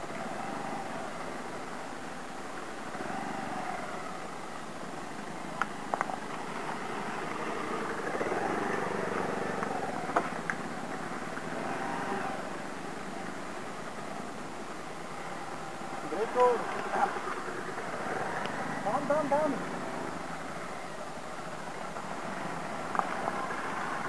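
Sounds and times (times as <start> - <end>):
motorcycle engines at low revs: 0.0 - 24.0.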